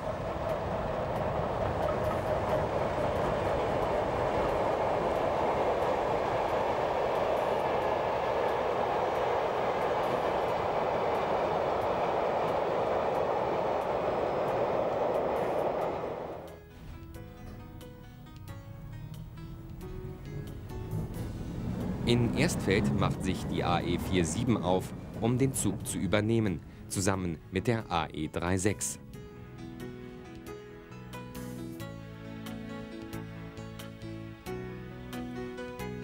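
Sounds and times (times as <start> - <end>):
locomotive rumbling clatter: 0.0 - 28.9
train coaches rolling by: 0.0 - 28.9.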